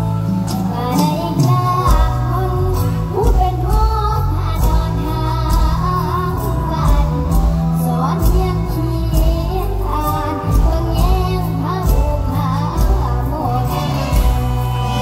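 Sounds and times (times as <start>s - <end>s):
amplified band: 0.0s - 15.0s
bass line: 0.0s - 15.0s
girl singing into a microphone: 0.0s - 15.0s.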